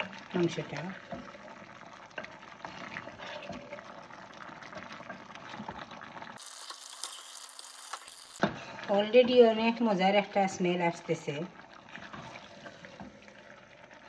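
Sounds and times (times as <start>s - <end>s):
curry squelching and bubbling: 0.0s - 8.9s, 11.5s - 14.0s.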